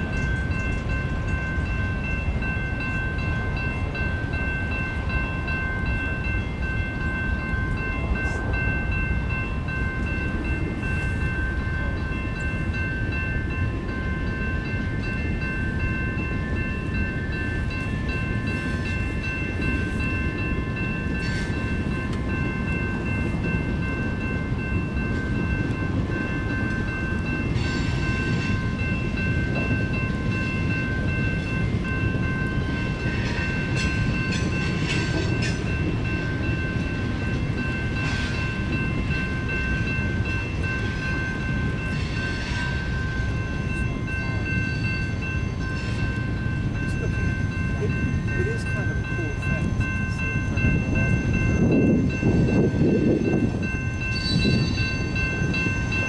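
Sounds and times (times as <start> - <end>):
freight train rumbling past: 0.0 - 56.0
high ringing tones: 0.0 - 56.0
train clanks and squeals: 0.0 - 56.0.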